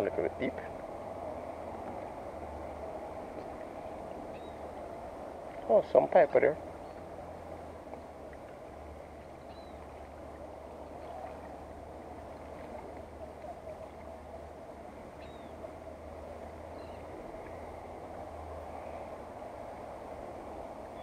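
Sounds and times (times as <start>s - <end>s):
waterside outdoor background noise: 0.0s - 21.0s.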